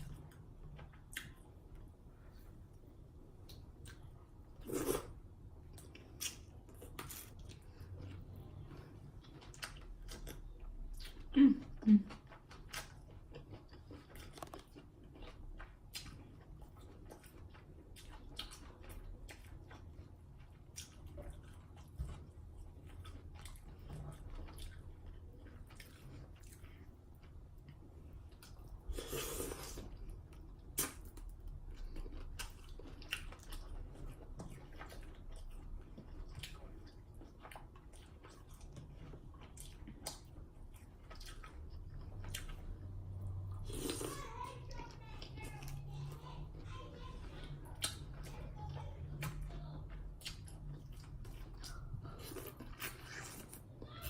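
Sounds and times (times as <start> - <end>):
chewing and wet lip smacking: 3.3 - 11.4, 12.0 - 44.2, 47.6 - 48.4, 49.0 - 53.8.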